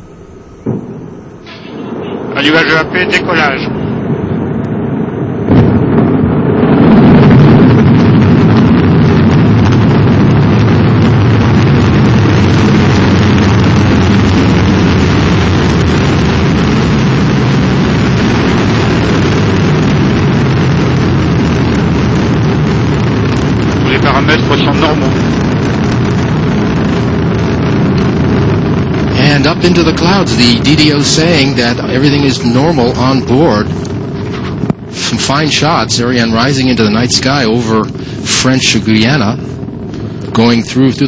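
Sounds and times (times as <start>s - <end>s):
rocket engine roar: 0.0s - 41.0s.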